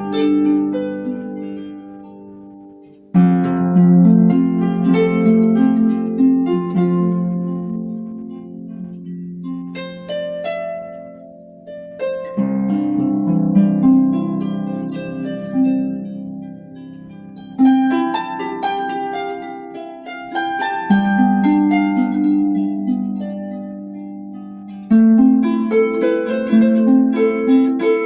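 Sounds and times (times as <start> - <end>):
harp chords ringing: 0.0 - 28.0.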